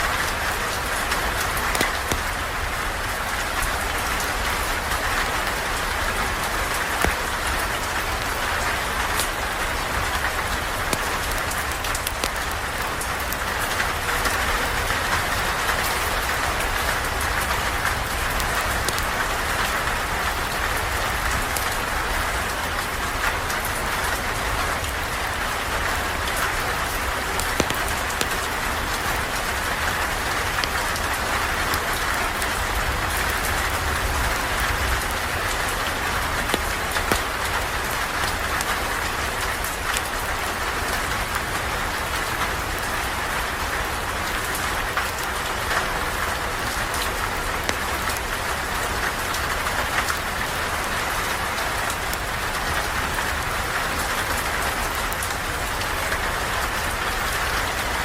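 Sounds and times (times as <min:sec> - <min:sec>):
raindrops ticking: 0:00.0 - 0:58.0
steady rain falling: 0:00.0 - 0:58.0.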